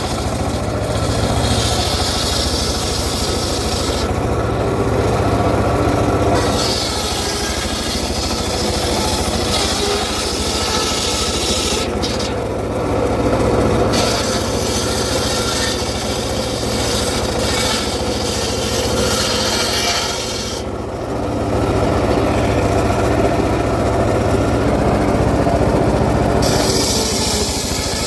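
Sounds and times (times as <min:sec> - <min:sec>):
circular saw cutting wood: 0:00.0 - 0:28.0.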